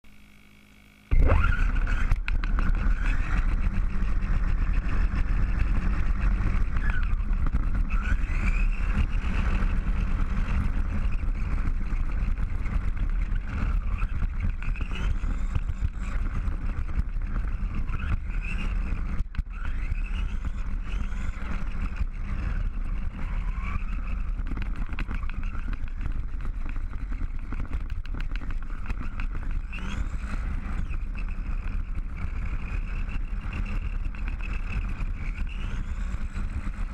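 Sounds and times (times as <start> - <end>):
electric motor whine: 0.1 - 36.9
tyres rumbling on asphalt: 1.1 - 36.9.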